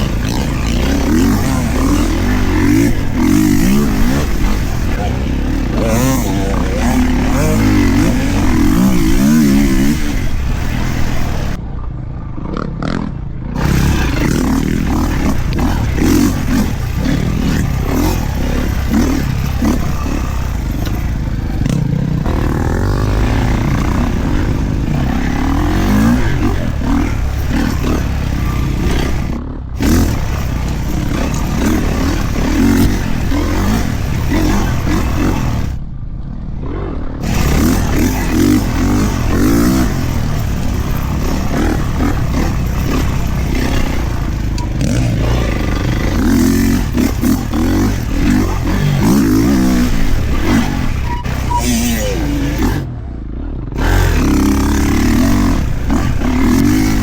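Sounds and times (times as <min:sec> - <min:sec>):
dirt bike engine revving: 0:00.0 - 0:11.6, 0:12.9 - 0:35.8, 0:36.7 - 0:57.0.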